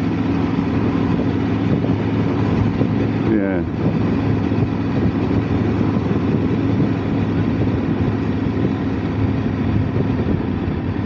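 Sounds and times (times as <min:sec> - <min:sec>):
motorcycle engine running: 0:00.0 - 0:11.0
wind and road noise hiss: 0:00.0 - 0:11.0.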